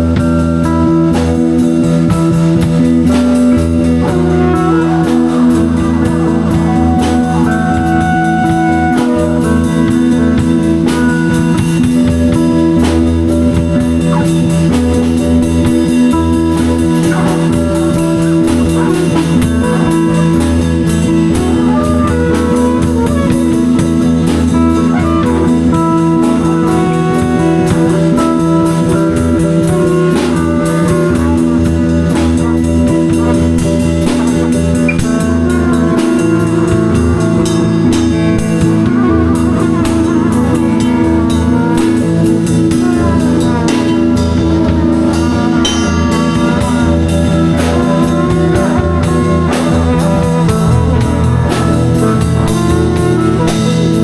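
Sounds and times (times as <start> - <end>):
drum kit: 0.0 - 54.0
guitar sustained notes: 0.0 - 54.0.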